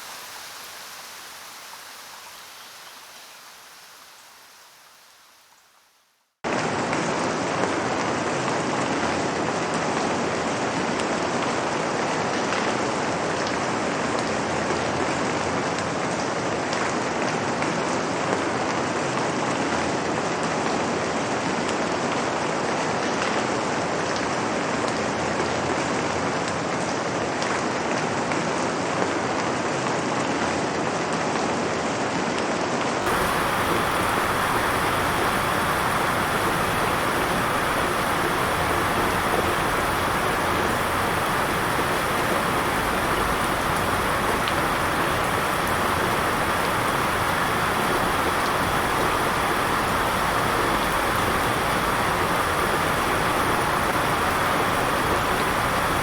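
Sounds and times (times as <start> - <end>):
steady rain: 0.0 - 31.0, 33.0 - 56.0.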